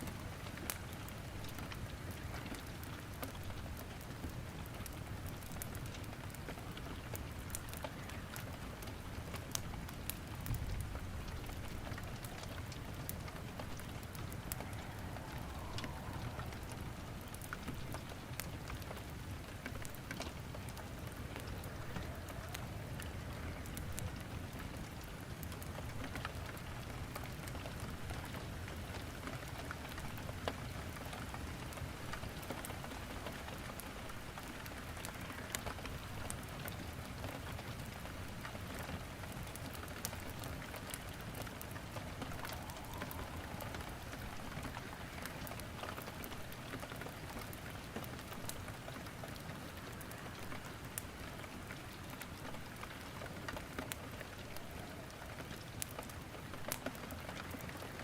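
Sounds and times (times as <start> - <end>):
firewood crackling: 0.0 - 58.0
steady rain: 0.0 - 58.0.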